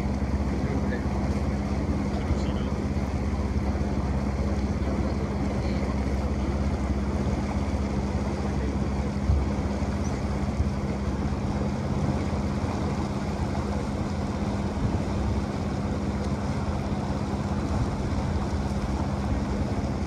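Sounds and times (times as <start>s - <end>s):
boat motor running: 0.0s - 20.0s
water wash: 0.0s - 20.0s.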